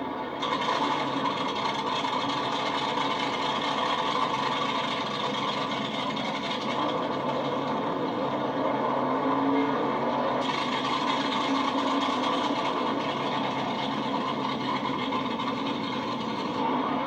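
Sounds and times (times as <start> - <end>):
race vehicle engine running: 0.0 - 17.0.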